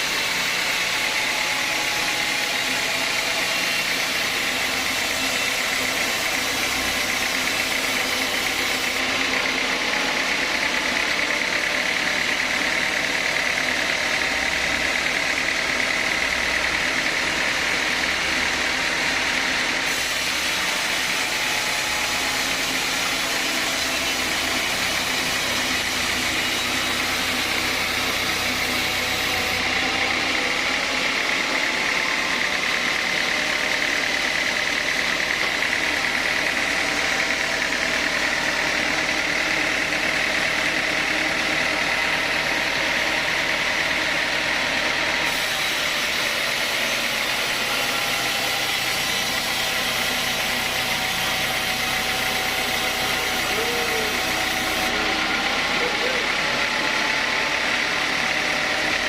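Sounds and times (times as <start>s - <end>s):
sawmill saw running: 0.0s - 59.0s.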